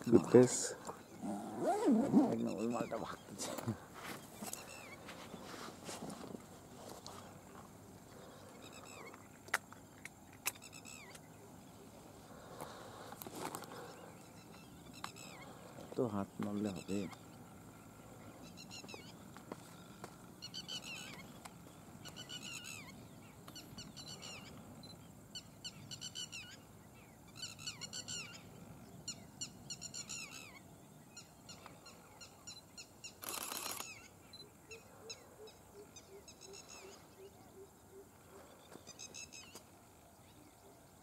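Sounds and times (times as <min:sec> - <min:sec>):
songbird twittering: 0:00.0 - 0:05.7, 0:07.1 - 0:12.9, 0:13.6 - 0:41.0.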